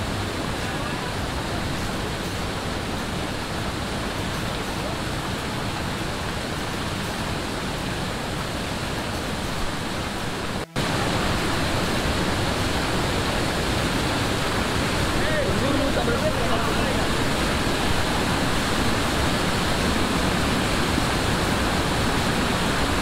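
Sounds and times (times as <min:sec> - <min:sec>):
waterfall rushing and splashing: 0:00.0 - 0:23.0.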